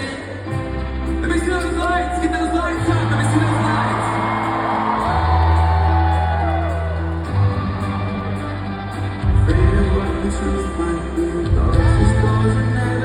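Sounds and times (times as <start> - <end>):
live rock band: 0.2 - 13.0.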